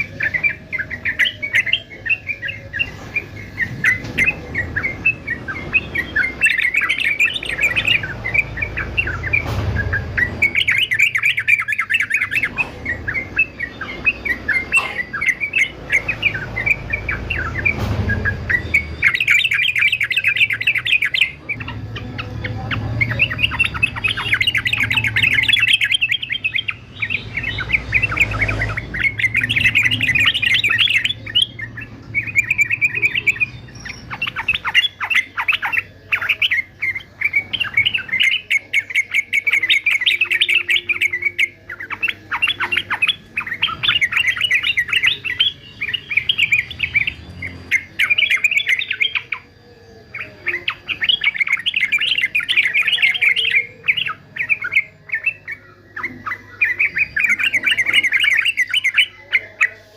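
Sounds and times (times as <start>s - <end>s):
bird singing chattering phrases: 0.0s - 59.9s.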